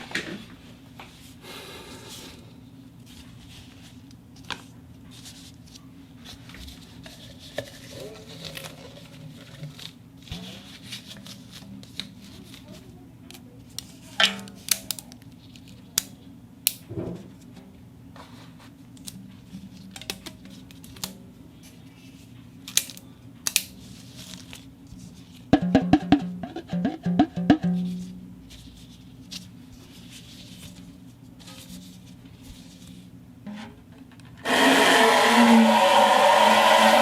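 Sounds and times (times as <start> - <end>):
steady low hum: 0.0 - 34.4.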